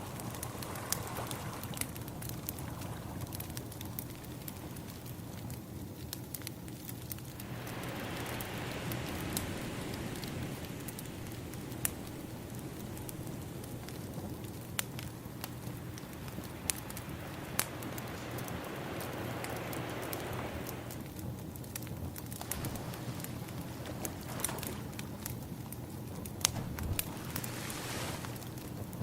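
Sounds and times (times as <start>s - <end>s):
ocean waves washing in: 0.0s - 5.4s, 7.0s - 21.2s, 22.3s - 25.0s, 26.5s - 29.0s
wood fire crackling: 0.0s - 29.0s.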